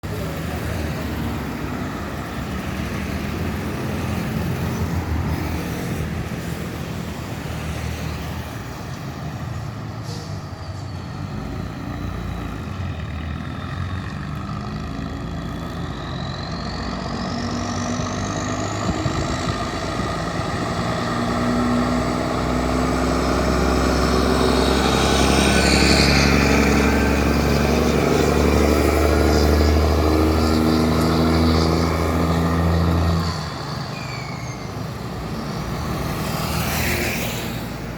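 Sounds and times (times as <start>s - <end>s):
truck diesel engine pulling hard: 0.0s - 37.9s.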